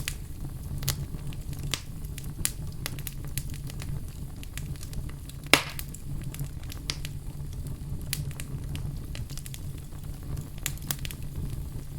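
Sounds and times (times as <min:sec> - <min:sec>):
fire crackling: 0:00.0 - 0:11.9.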